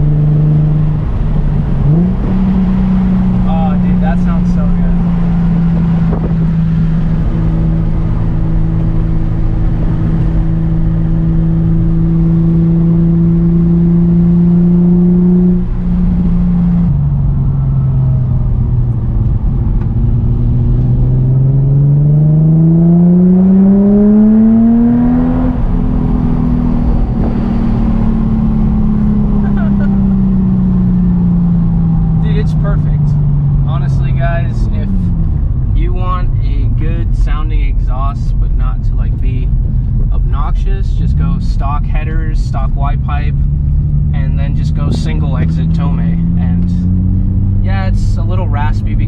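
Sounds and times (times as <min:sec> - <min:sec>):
car engine accelerating: 0:00.0 - 0:49.0.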